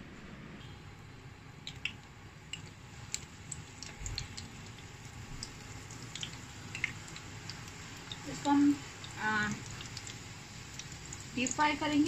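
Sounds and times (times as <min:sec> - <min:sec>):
food frying in hot oil: 0:01.5 - 0:12.0.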